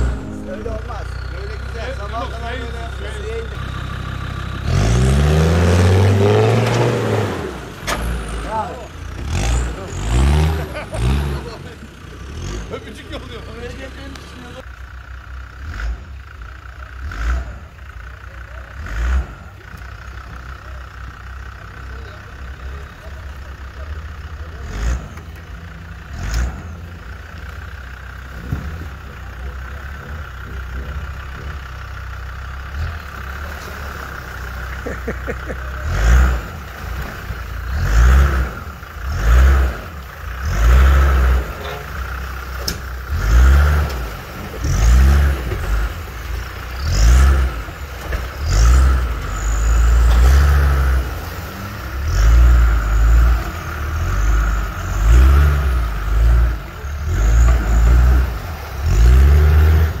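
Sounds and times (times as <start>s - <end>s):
diesel engine revving: 0.0s - 60.0s.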